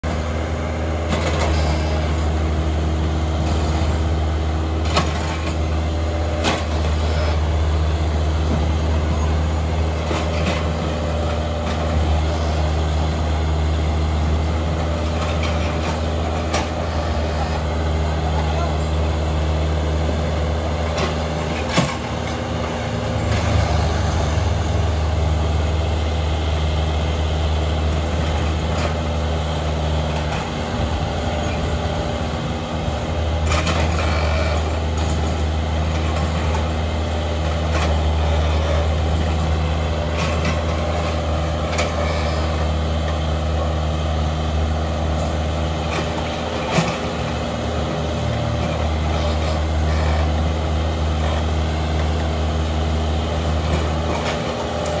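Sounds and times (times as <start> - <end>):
diesel excavator engine running: 0.0 - 55.0.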